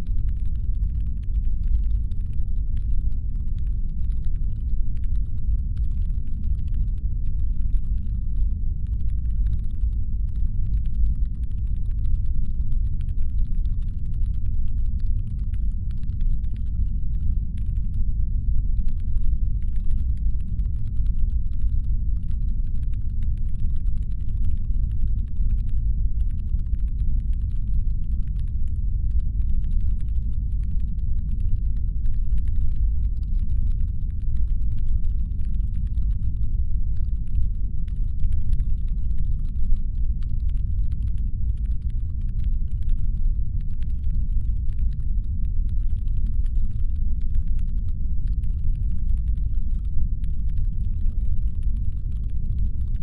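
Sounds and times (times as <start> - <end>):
faint rapid clicking: 0.0 - 53.0.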